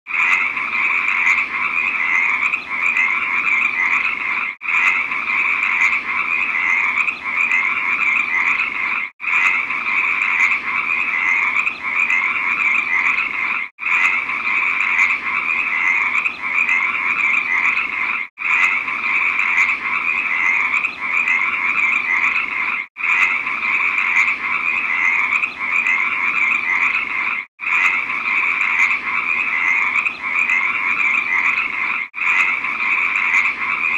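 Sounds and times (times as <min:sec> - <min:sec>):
frogs croaking in chorus: 0:00.1 - 0:33.9.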